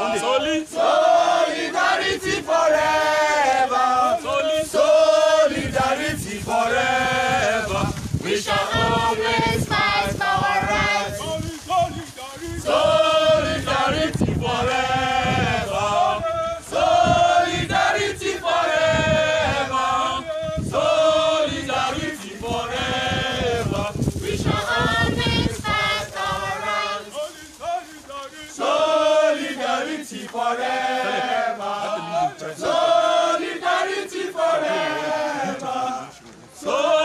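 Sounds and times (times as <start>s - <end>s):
crowd singing in chorus: 0.0s - 37.0s.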